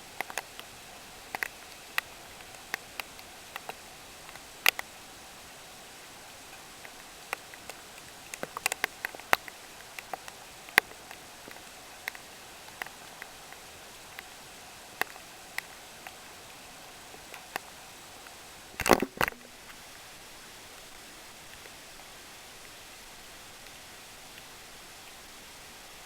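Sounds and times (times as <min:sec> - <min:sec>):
raindrops tapping a surface: 0:00.0 - 0:20.0, 0:20.7 - 0:22.8
faint rain hiss: 0:00.0 - 0:26.0.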